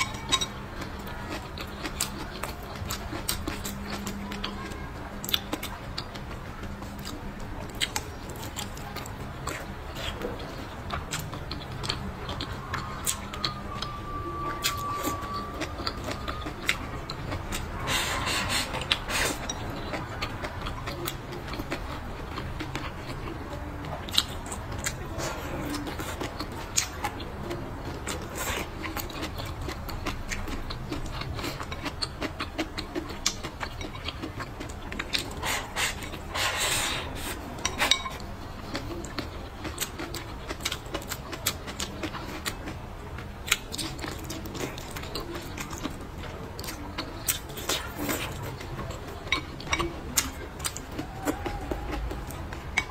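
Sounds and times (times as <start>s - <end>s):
chewing clicks and smacks: 0.0s - 36.6s, 37.6s - 52.9s
low steady hum: 0.0s - 52.9s.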